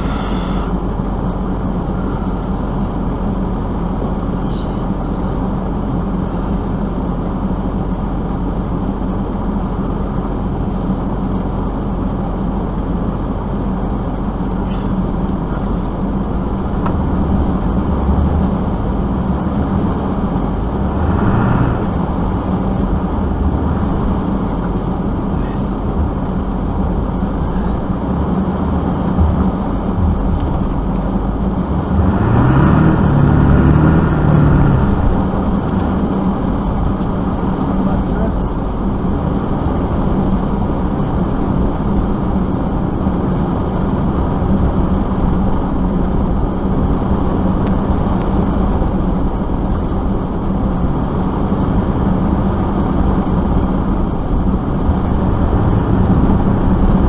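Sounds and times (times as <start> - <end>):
vehicle engine running and revving: 0.0 - 57.0.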